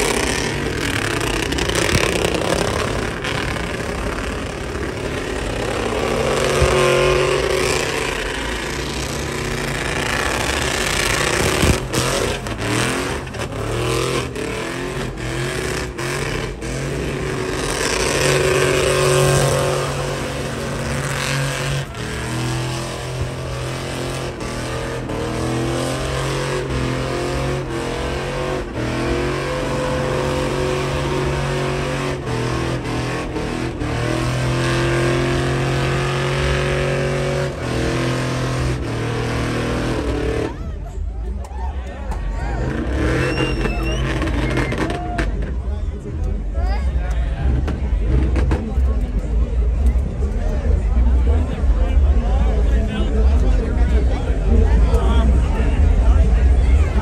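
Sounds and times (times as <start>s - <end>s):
truck engine revving: 0.0s - 41.1s, 42.1s - 57.0s.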